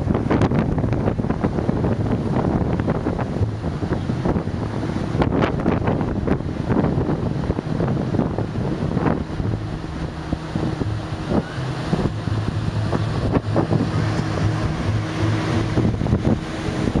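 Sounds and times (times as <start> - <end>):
low machinery hum: 0.0 - 17.0
wind buffeting microphone: 0.0 - 17.0.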